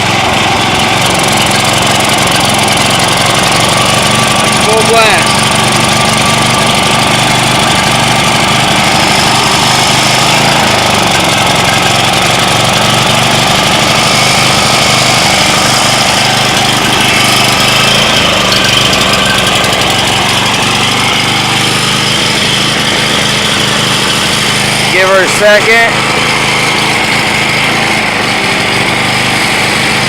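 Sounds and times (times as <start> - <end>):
generator engine running: 0.0 - 30.0.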